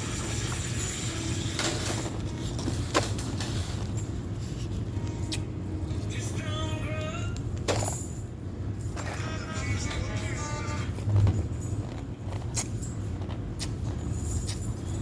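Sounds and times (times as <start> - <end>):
washers and dryers humming: 0.0 - 15.0.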